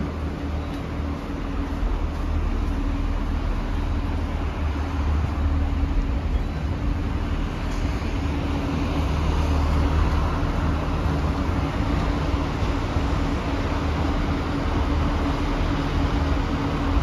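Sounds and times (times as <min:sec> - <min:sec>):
diesel railcar idling: 0:00.0 - 0:17.0.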